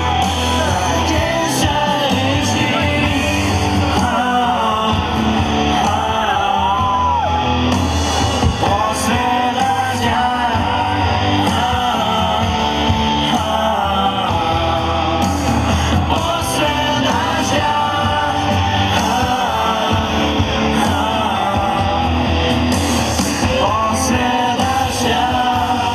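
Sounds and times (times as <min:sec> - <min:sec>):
live band music: 0:00.0 - 0:25.9
person singing: 0:00.0 - 0:25.9.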